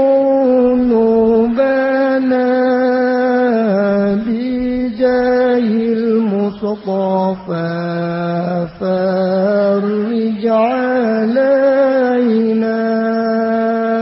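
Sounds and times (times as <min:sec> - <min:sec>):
man chanting in held notes: 0:00.0 - 0:14.0.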